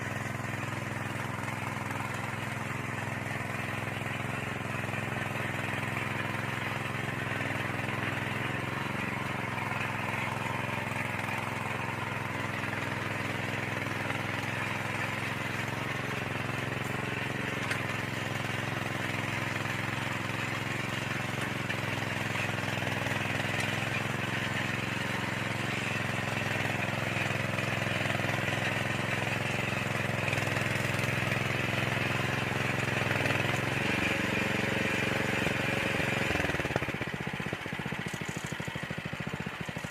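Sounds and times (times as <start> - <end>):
soil tiller engine running: 0.0 - 39.9.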